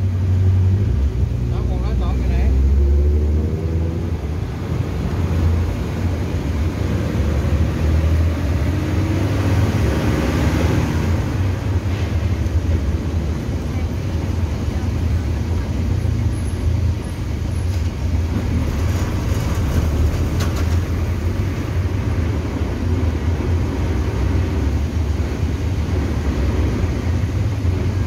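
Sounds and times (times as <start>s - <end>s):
bus engine humming: 0.0s - 28.0s
road noise: 0.0s - 28.0s.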